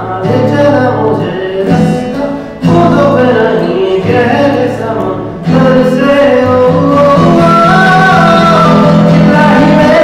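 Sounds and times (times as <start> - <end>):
acoustic guitars: 0.0 - 10.0
man singing into a microphone: 0.0 - 10.0.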